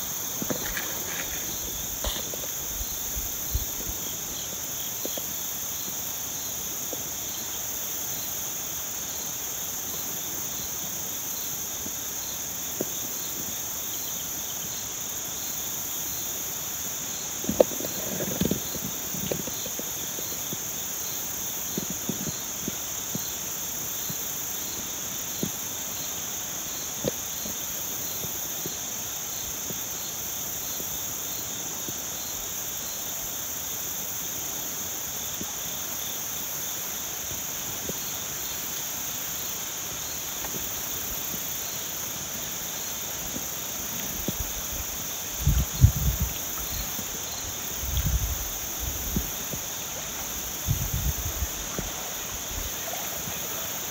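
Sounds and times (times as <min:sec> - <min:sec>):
insect chirping: 0:00.0 - 0:53.9
insects buzzing: 0:00.0 - 0:53.9.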